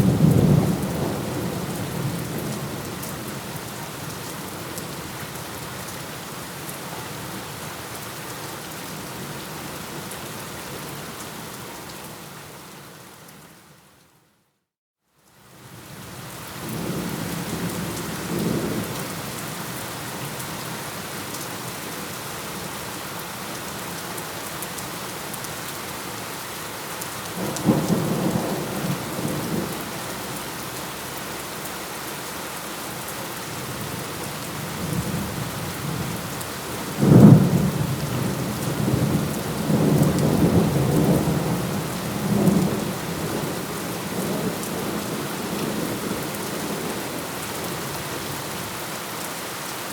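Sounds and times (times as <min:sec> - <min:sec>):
steady rain: 0:00.0 - 0:14.0, 0:15.2 - 0:49.9.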